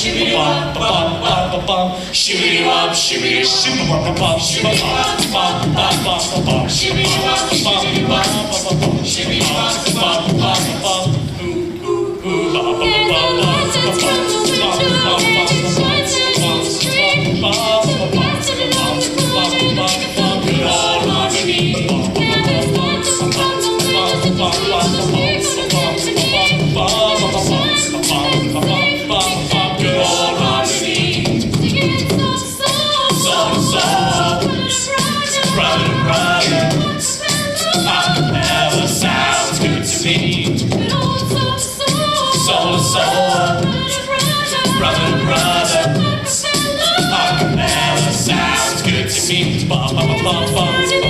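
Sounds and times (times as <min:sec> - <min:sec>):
choir singing a cappella: 0:00.0 - 0:51.0
vocal percussion ticks: 0:00.0 - 0:51.0.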